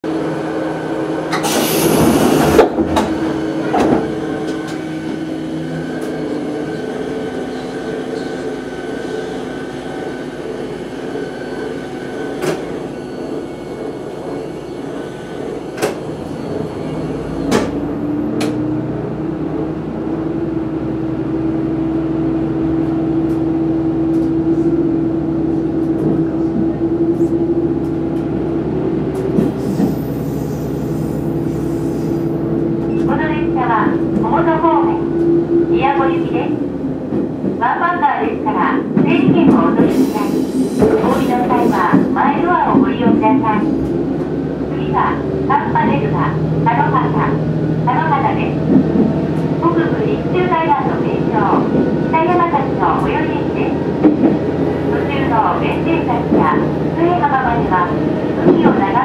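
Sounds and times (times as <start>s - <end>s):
railcar diesel engine: 0.0s - 59.0s.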